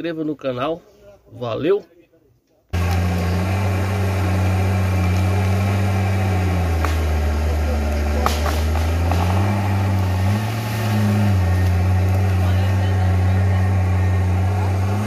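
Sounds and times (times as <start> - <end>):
diesel engine running hard: 2.8 - 15.0.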